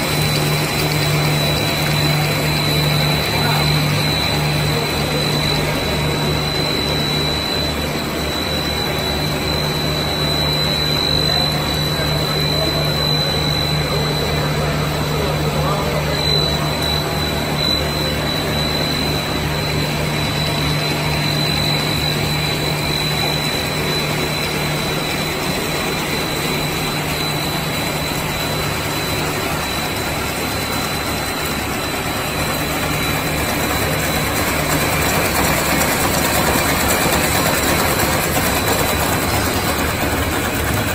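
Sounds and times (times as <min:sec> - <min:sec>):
snack extruder machine running: 0:00.0 - 0:40.9
thin high whine: 0:00.0 - 0:40.9.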